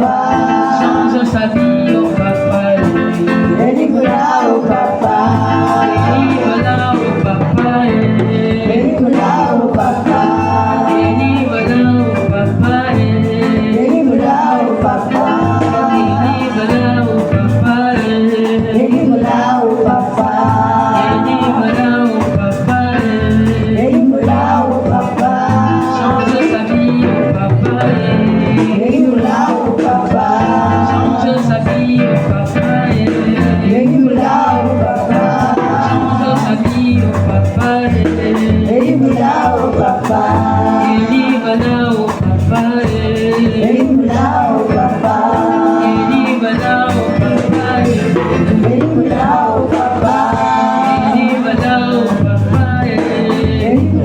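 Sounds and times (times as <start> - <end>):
band with drums and percussion: 0.0 - 54.0
voices singing a chorus: 0.0 - 54.0.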